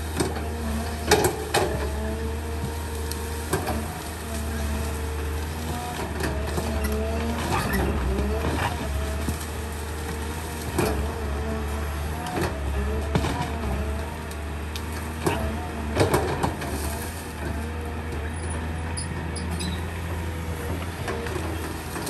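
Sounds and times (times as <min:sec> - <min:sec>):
branches cracking: 0:00.0 - 0:17.8
diesel engine running under load: 0:00.0 - 0:22.0.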